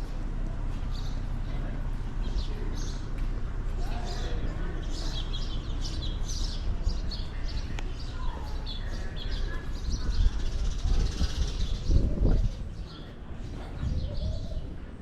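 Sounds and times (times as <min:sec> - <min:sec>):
low uneven rumble: 0:00.0 - 0:15.0
small birds chirping: 0:00.7 - 0:14.8.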